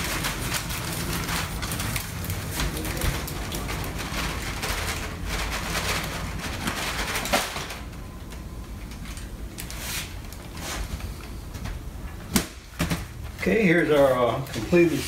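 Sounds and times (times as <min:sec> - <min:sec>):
wax paper rustling and crackling: 0:00.0 - 0:11.4, 0:13.2 - 0:15.0.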